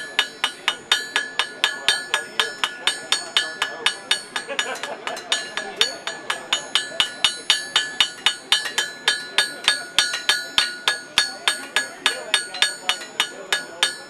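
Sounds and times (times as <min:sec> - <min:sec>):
hammer ringing on anvil: 0:00.0 - 0:14.0.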